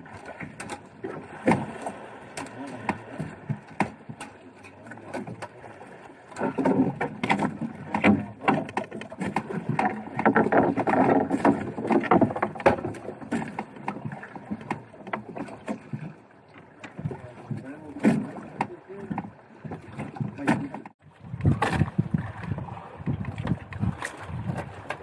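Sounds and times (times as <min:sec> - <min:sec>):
knocks and scrapes of hauled line: 0:00.0 - 0:25.0
water sounds: 0:00.0 - 0:25.0.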